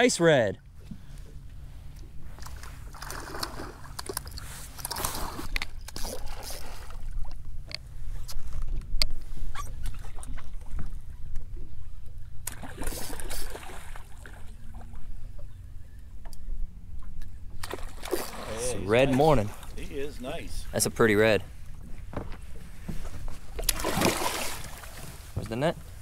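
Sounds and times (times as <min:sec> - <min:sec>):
water sloshing and splashing: 0:00.8 - 0:15.6, 0:17.0 - 0:26.0.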